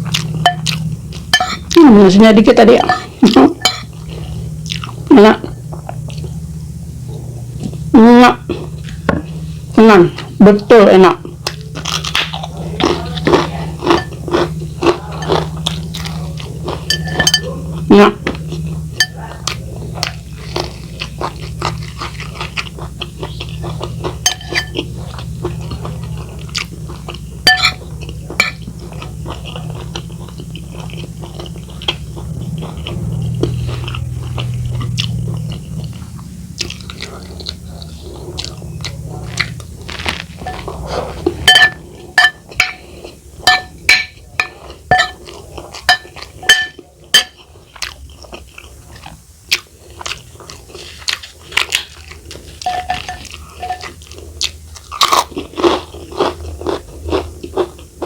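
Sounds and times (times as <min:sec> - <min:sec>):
person chewing crisp food: 0:00.0 - 0:01.8, 0:03.0 - 0:06.4, 0:11.2 - 0:58.0
low steady hum: 0:00.0 - 0:58.0.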